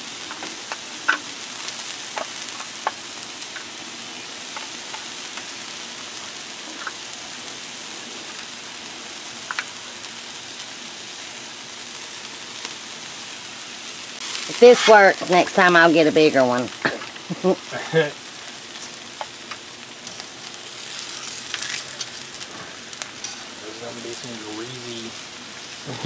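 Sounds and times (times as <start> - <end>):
beef sizzling on a griddle: 0.0 - 26.0.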